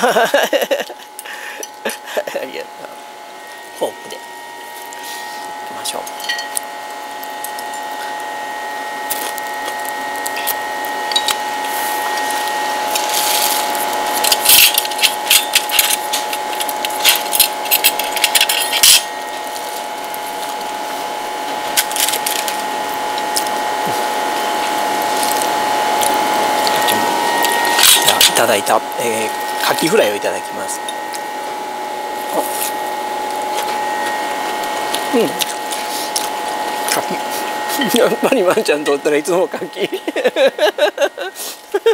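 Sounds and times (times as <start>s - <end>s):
steady droning tone: 0.8s - 41.8s.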